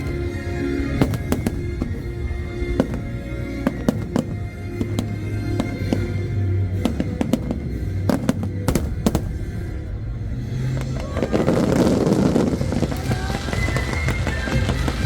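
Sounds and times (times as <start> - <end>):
firework bangs: 0.0 - 15.0
fireworks crackling: 0.0 - 15.0
music with low bass: 0.0 - 15.0.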